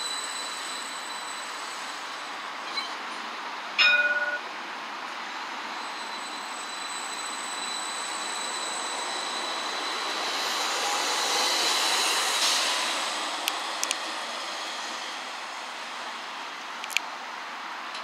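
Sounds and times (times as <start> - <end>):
tram running past: 0.0 - 16.7.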